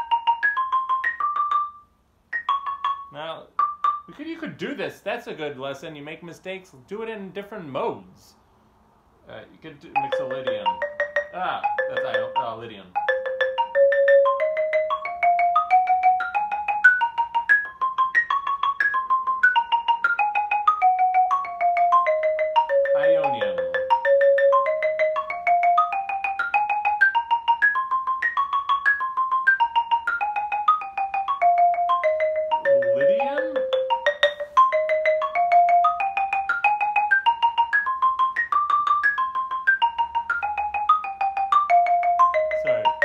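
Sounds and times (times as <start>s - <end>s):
marimba scale: 0.0s - 4.7s, 9.9s - 43.0s.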